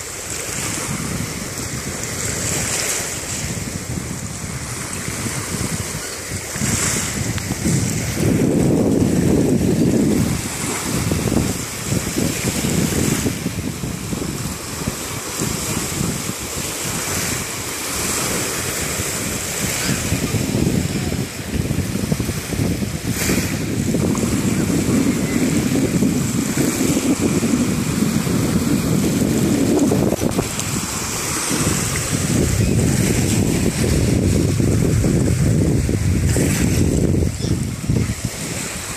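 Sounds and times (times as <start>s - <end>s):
small waves washing on beach: 0.0s - 38.9s
wind buffeting microphone: 0.0s - 38.9s.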